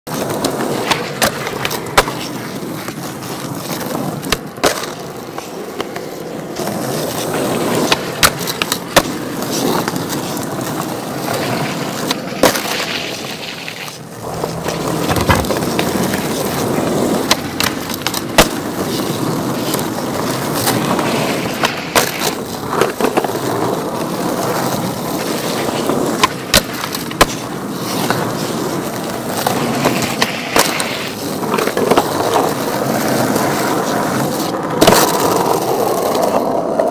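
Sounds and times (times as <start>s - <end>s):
skateboard tail clacks: 0.1s - 36.9s
skateboard wheels rolling on pavement: 0.1s - 36.9s.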